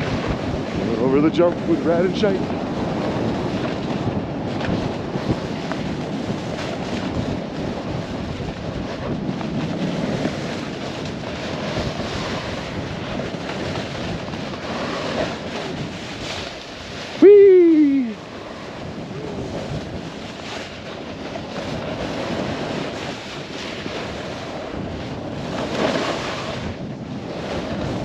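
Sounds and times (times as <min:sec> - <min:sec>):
snowboard sliding over snow: 0:00.0 - 0:28.0
wind rushing over microphone: 0:00.0 - 0:28.0.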